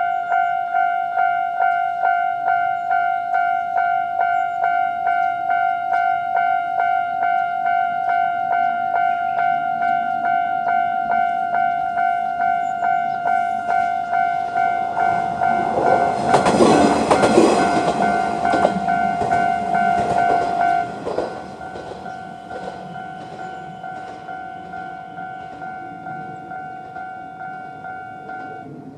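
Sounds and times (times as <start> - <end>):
diesel railcar passing: 0.0 - 28.9
level crossing warning bells: 0.0 - 28.9.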